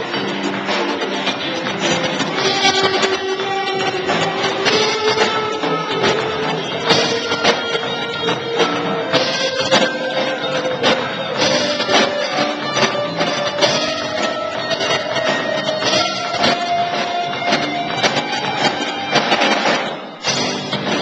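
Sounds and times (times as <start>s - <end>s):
drum and cymbal hits: 0.0s - 21.0s
live rock band playing: 0.0s - 21.0s.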